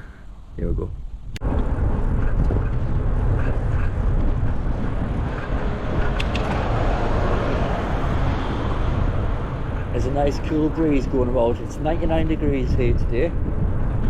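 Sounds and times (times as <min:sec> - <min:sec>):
wind buffeting microphone: 0:00.8 - 0:14.0.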